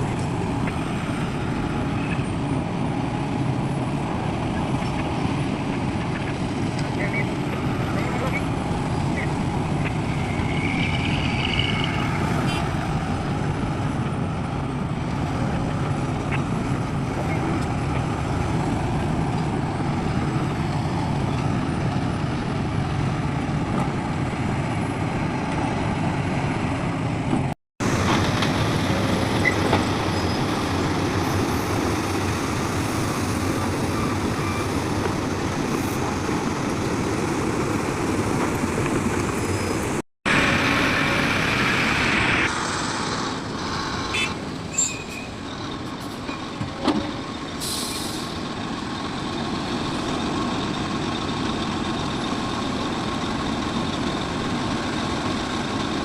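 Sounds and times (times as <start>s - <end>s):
diesel construction machinery running: 0.0s - 56.0s.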